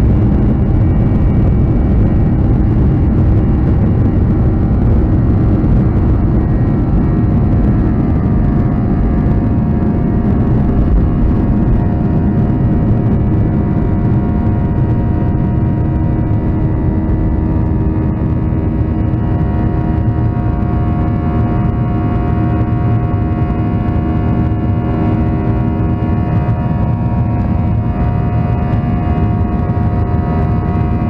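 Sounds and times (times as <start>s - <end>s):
jet engine cabin drone: 0.0s - 31.0s.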